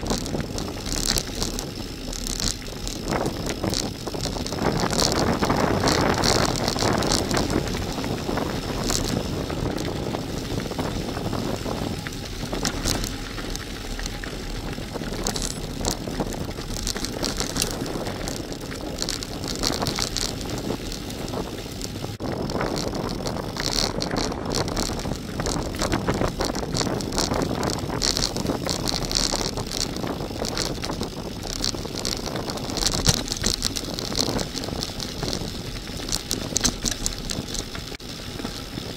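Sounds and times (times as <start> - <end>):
bicycle tyres crunching on gravel: 0.0 - 38.9
stones and bike rattling: 0.0 - 38.9
wind buffeting microphone: 0.0 - 38.9.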